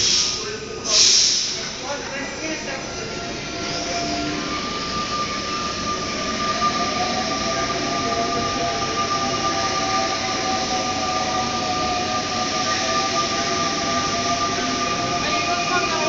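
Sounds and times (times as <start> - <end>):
train rolling with electric whine: 2.0 - 16.0.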